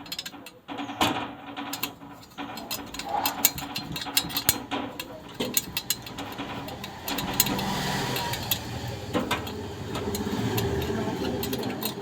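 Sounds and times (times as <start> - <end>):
air conditioner motor hum: 0.0 - 12.0
scattered clicks: 1.7 - 12.0.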